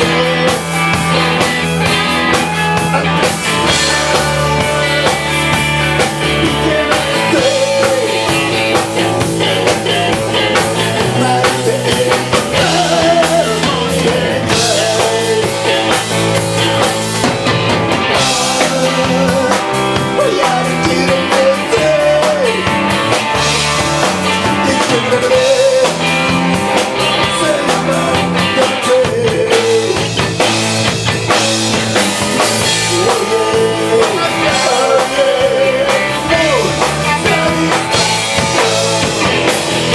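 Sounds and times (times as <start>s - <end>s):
bending guitar lead line: 0.0s - 39.9s
rock band playing: 0.0s - 39.9s.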